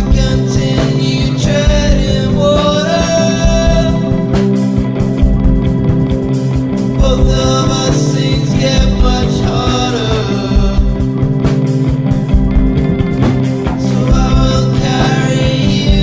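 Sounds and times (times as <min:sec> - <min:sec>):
guitar song with steady beat: 0:00.0 - 0:16.0.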